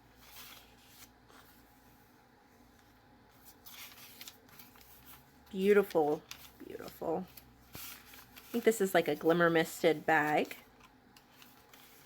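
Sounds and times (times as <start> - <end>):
paper pages rustling: 0.0 - 12.0.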